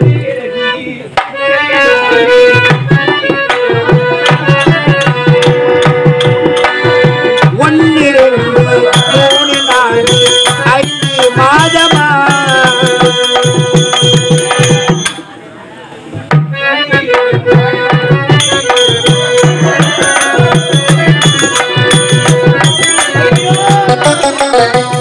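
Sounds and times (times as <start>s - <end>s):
harmonium melody over drone: 0.0s - 15.3s, 16.4s - 25.0s
hand drum beating rhythm: 2.4s - 15.3s, 16.2s - 25.0s.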